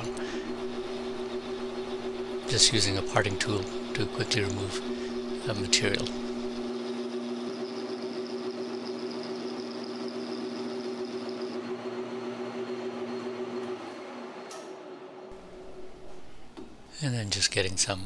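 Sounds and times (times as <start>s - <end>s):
metal lathe humming: 0.0s - 14.5s
high whine of cutting tool: 0.0s - 16.3s.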